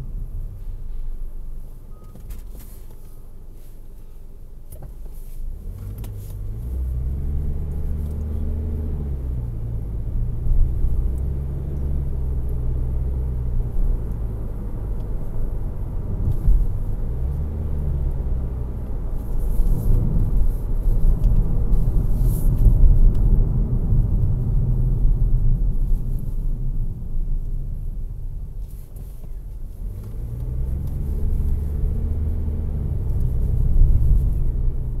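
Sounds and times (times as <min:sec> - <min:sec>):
road rumble: 0:00.0 - 0:35.0
car engine accelerating: 0:05.5 - 0:35.0.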